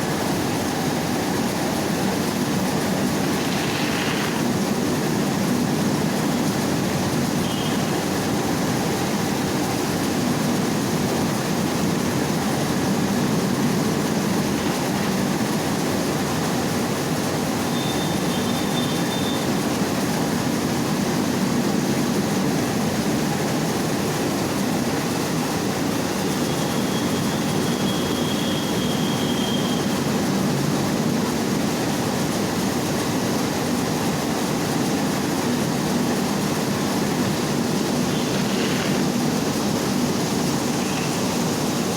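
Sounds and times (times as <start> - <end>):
rice milling machine running: 0.1 - 41.9.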